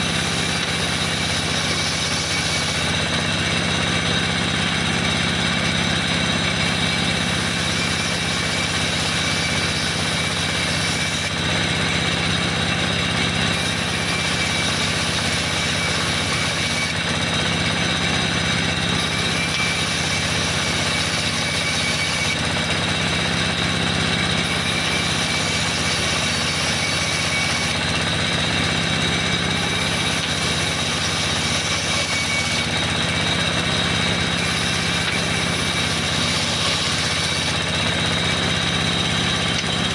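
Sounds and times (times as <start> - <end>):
motor hum: 0.0 - 39.9
saw blade whine: 0.0 - 39.9.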